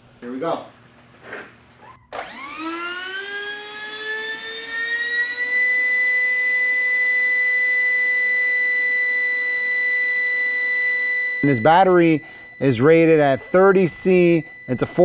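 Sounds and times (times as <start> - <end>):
electric ducted-fan motor whine: 2.1 - 15.0.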